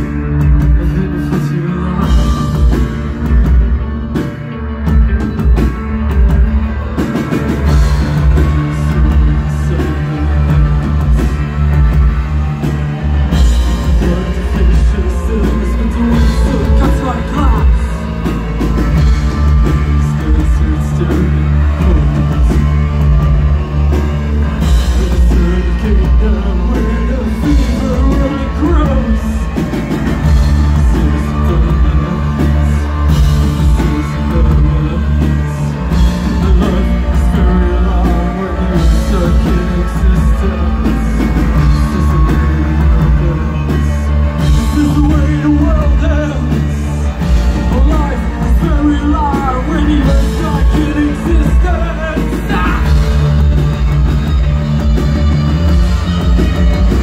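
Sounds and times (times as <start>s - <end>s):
person singing into microphone: 0.0s - 4.3s, 7.4s - 54.5s
drums: 0.0s - 57.0s
electric guitar: 0.0s - 57.0s
rock band playing live: 0.0s - 57.0s.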